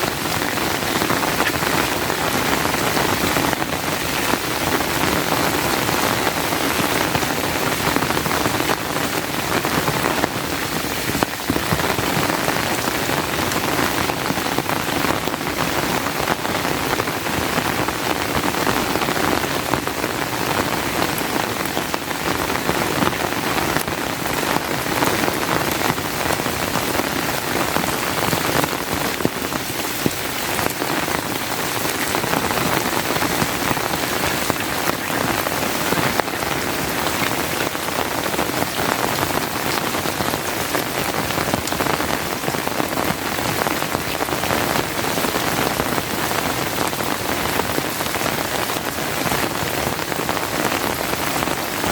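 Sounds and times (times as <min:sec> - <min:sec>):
raindrops ticking: 0:00.0 - 0:51.8
steady rain hissing: 0:00.0 - 0:51.9.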